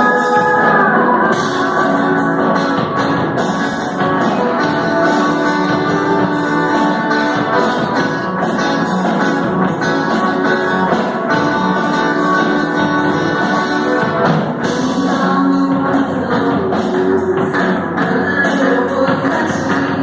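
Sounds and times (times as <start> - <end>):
drum kit beat: 0.0 - 20.0
guitar: 0.0 - 20.0
live band playing worship song: 0.0 - 20.0.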